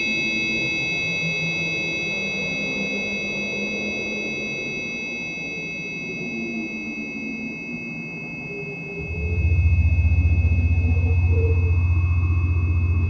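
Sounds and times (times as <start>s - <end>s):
low wavering drone: 0.0s - 13.0s.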